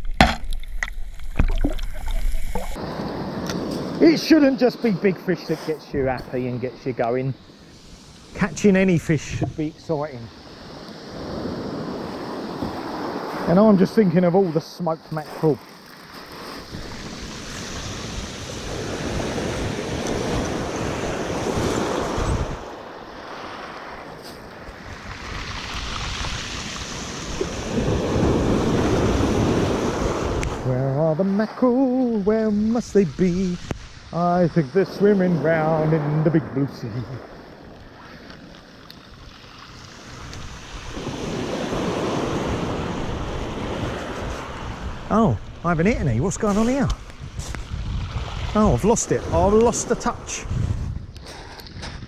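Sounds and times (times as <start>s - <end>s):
waves on shingle beach: 0.0s - 50.5s
wind on microphone: 5.7s - 13.5s, 16.4s - 38.5s, 39.1s - 52.0s.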